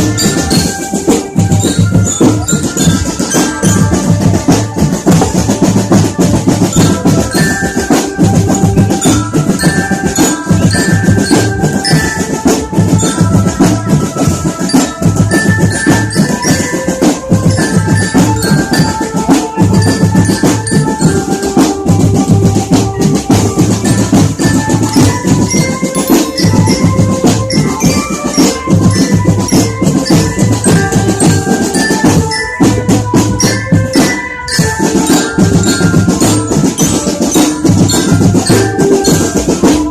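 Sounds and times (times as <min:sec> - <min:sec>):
marching glockenspiel melody: 0:00.0 - 0:39.9
snare and bass drums beating: 0:00.0 - 0:39.9.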